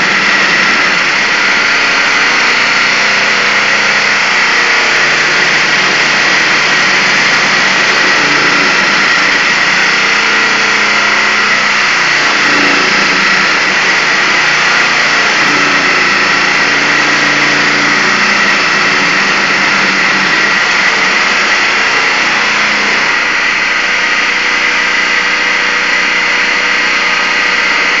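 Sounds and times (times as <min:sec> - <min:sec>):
circular saw cutting concrete: 0:00.0 - 0:28.0.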